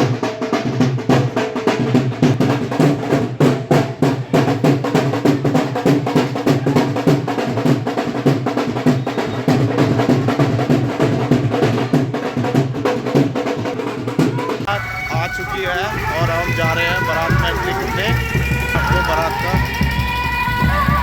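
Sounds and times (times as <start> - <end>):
drum-heavy band music: 0.0 - 21.0.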